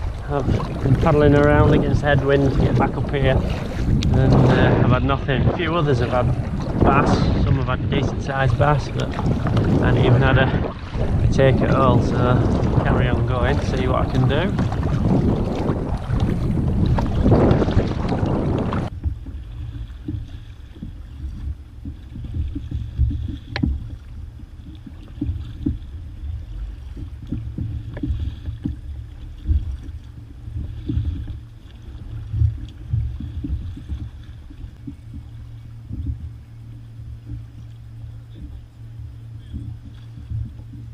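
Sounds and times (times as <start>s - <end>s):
water sloshing against plastic hull: 0.0s - 40.9s
wind on microphone: 0.0s - 40.9s.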